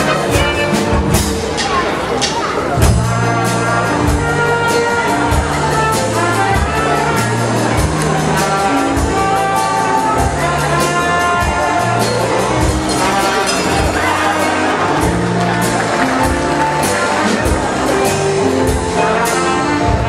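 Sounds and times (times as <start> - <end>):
lively brass music: 0.0 - 20.0.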